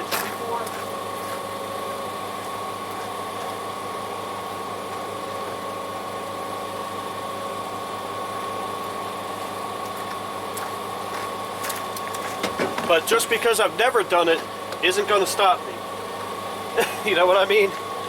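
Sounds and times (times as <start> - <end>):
generator drone: 0.0 - 18.0.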